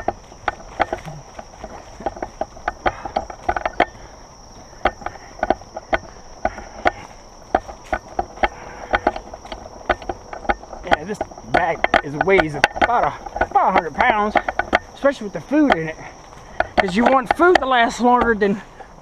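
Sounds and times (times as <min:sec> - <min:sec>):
backpack gear clicking and creaking: 0:00.0 - 0:19.0
high insect drone: 0:00.0 - 0:19.0.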